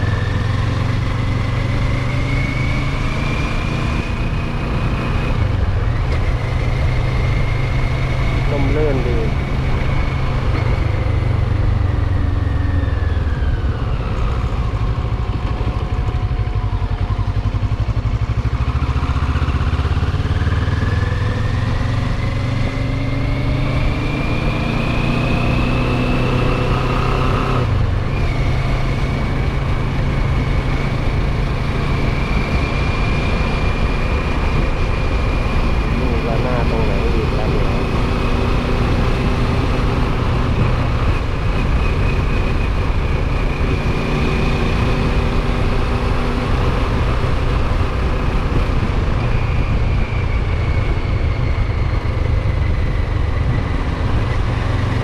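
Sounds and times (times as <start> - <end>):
motorcycle engine running: 0.0 - 55.0
road rumble: 0.0 - 55.0
wind: 0.0 - 55.0.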